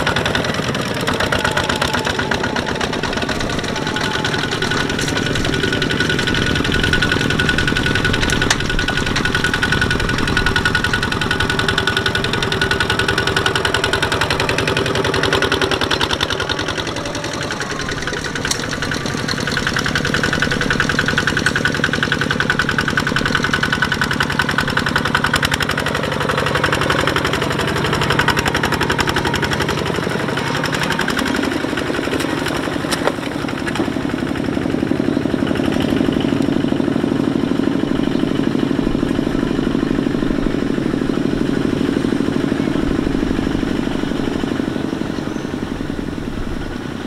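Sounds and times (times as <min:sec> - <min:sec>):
diesel engine chugging: 0:00.0 - 0:47.0.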